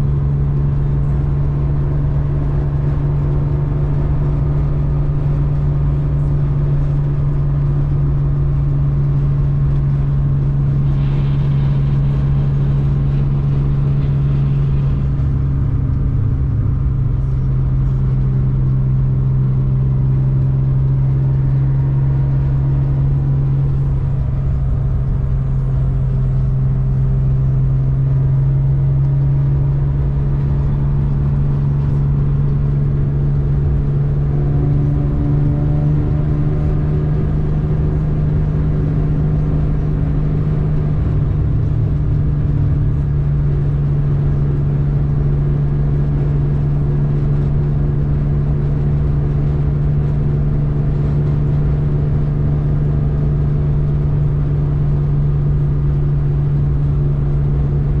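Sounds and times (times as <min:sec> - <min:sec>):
car engine droning in cabin: 0:00.0 - 0:58.0
road rumble: 0:00.0 - 0:58.0.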